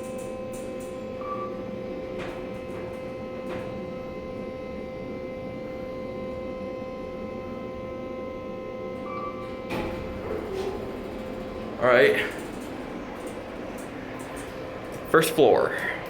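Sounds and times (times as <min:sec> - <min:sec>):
elevator hum: 0:00.0 - 0:16.0.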